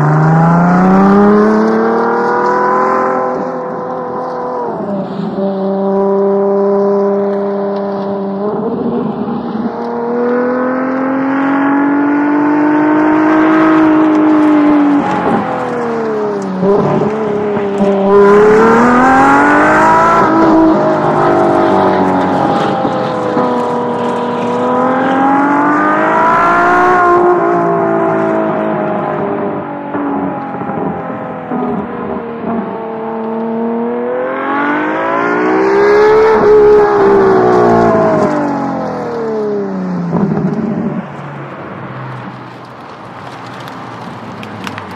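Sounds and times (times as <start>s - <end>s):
sports car engine revving: 0.0s - 42.6s.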